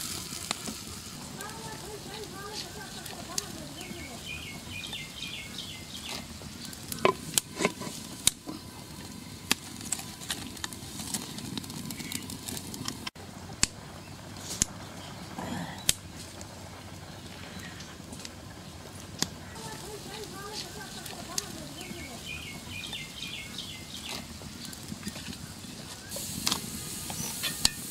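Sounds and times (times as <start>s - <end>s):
pops and crackles: 0.0s - 14.8s, 15.8s - 22.1s, 22.8s - 27.9s
spices sizzling in oil: 0.0s - 15.0s, 16.3s - 27.9s.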